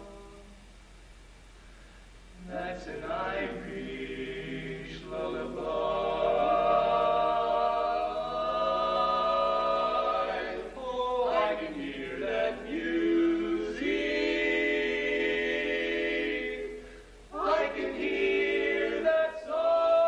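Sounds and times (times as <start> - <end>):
male voices singing in harmony: 2.4 - 20.0.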